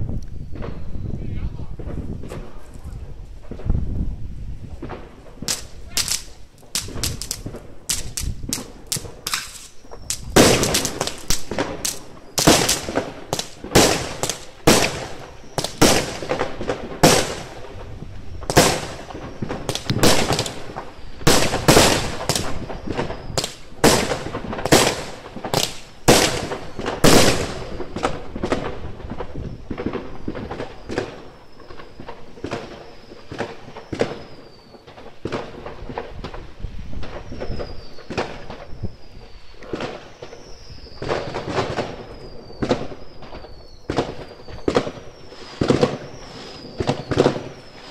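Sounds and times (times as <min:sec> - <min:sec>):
fireworks bursting with sharp bangs: 0:00.0 - 0:47.9.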